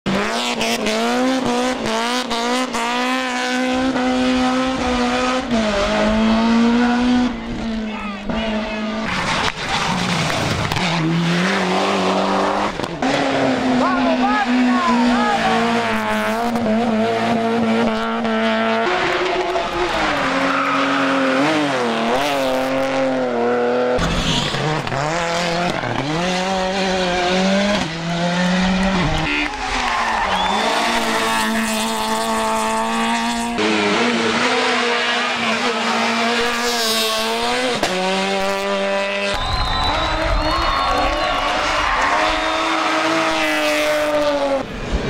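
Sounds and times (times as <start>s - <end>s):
rally car engines revving: 0.0s - 45.0s.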